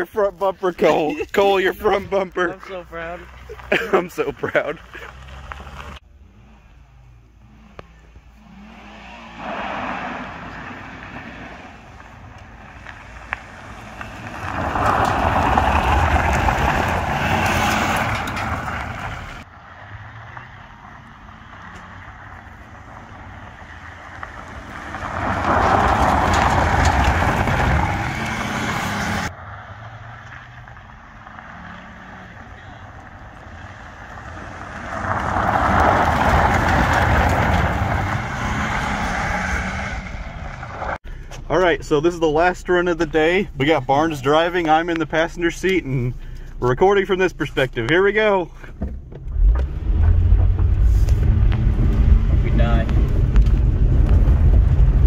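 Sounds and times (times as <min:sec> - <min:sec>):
tyres scrabbling on gravel: 0:00.0 - 0:06.0, 0:09.4 - 0:19.5, 0:20.1 - 0:55.0
car engine revving: 0:00.7 - 0:55.0.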